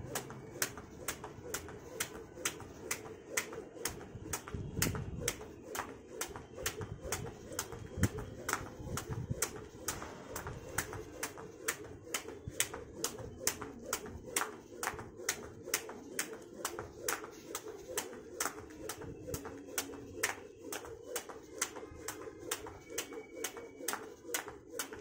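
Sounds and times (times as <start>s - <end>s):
jump rope slapping concrete: 0.0s - 25.0s.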